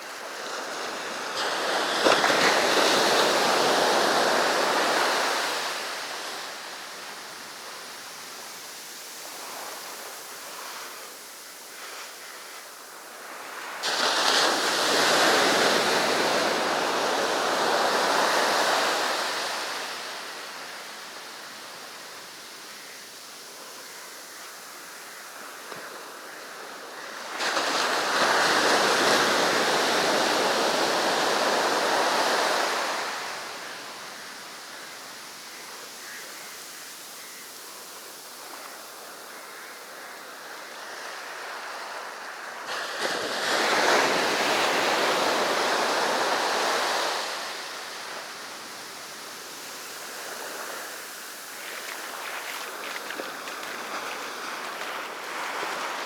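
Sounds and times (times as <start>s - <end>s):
sea surf breaking on beach: 0.0s - 56.0s
soft wash of water: 0.0s - 56.0s.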